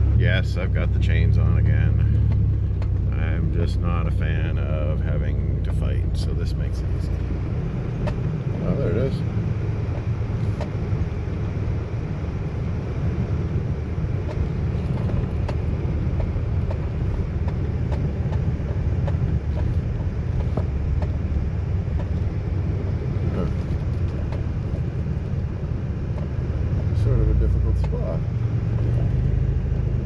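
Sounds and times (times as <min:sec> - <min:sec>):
truck driving rumble: 0:00.0 - 0:30.0.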